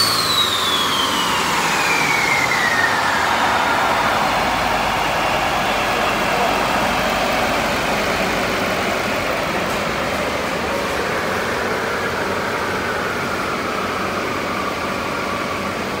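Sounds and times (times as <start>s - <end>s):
diesel engine idling: 0.0s - 16.0s
high whine falling in pitch: 0.0s - 16.0s
steady rush of noise: 0.0s - 16.0s.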